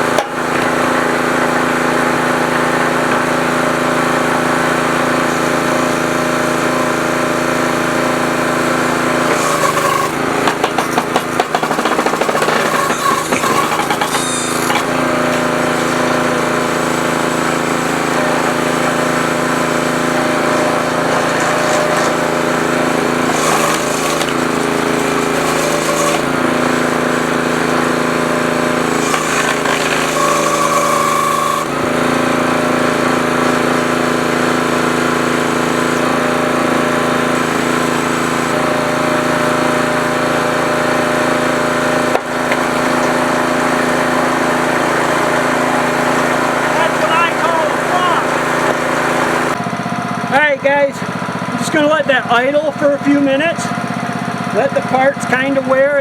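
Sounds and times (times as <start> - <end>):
log splitter engine running: 0.0 - 56.0.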